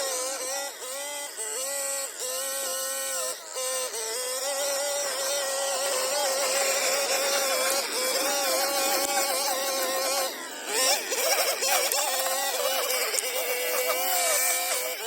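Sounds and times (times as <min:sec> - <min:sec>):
hedge trimmer running: 0:00.0 - 0:15.0.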